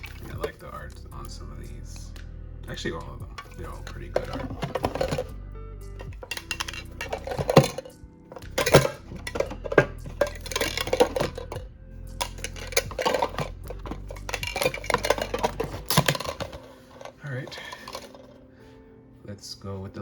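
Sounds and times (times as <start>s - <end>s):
metal tins clinking: 0.0s - 0.8s, 3.2s - 18.5s.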